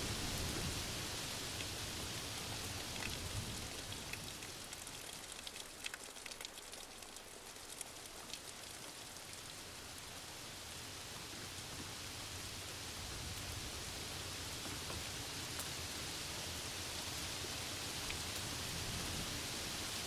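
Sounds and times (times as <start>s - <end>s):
rain drops pattering: 0.0s - 20.0s.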